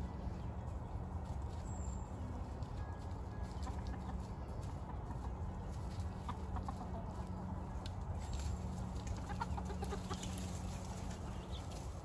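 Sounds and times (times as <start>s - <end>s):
chickens clucking: 0.0s - 12.0s
low background noise: 0.0s - 12.0s.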